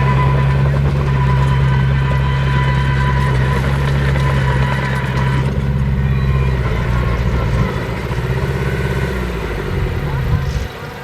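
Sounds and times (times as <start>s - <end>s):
clatter: 0.0s - 11.0s
heavy diesel engine running: 0.0s - 11.0s.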